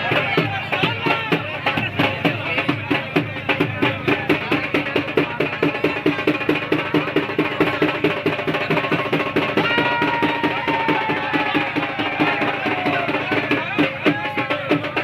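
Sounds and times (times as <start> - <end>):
music with fast drumming: 0.0 - 15.0.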